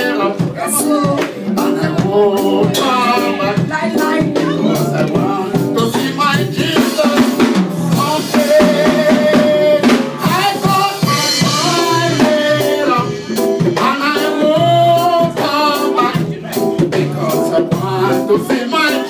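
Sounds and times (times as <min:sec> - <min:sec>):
drum kit: 0:00.0 - 0:19.0
lead and backing vocals singing: 0:00.0 - 0:19.0.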